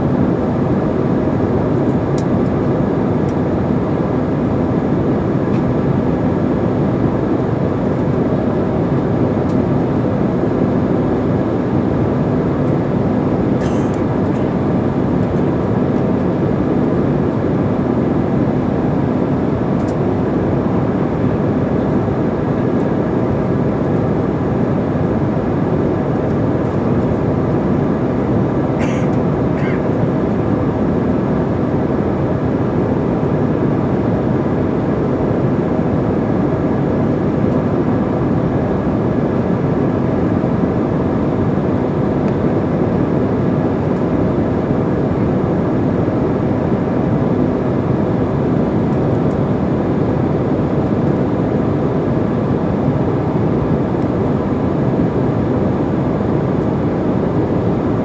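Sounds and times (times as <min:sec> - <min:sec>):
jet airliner cabin noise: 0:00.0 - 0:58.0.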